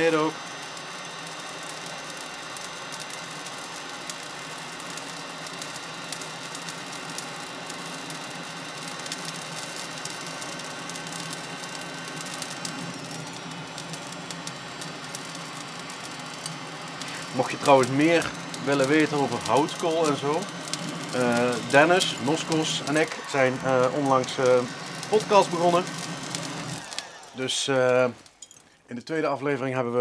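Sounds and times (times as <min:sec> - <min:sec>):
hot-air lighter hissing: 0:00.0 - 0:28.4
charcoal crackling: 0:00.0 - 0:29.3.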